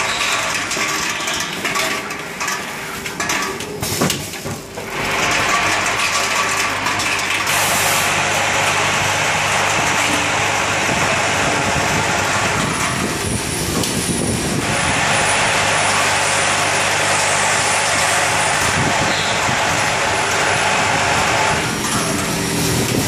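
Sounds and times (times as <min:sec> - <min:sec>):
dense rattle of plastic parts: 0:00.0 - 0:23.0.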